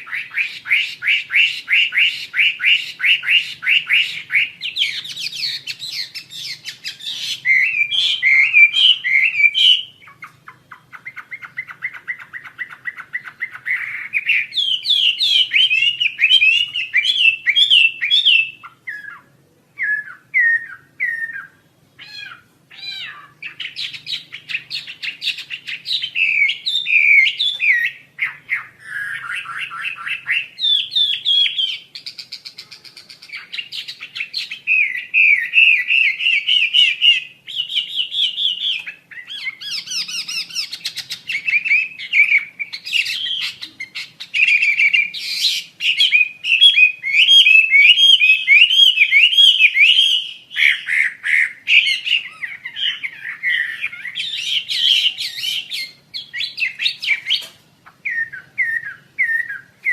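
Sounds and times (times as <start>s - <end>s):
bird chattering song: 0.0s - 59.9s
harsh buzzy bird calls: 0.0s - 59.9s.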